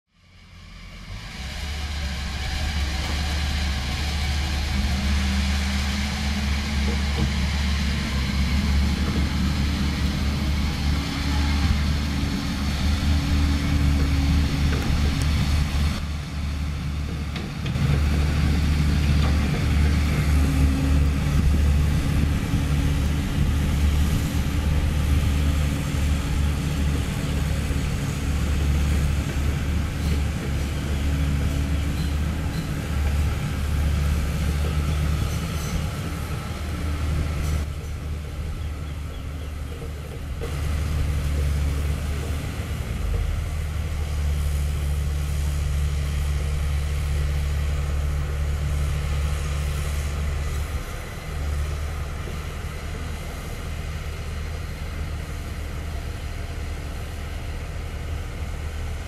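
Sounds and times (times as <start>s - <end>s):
excavator diesel engines running: 0.1s - 59.0s.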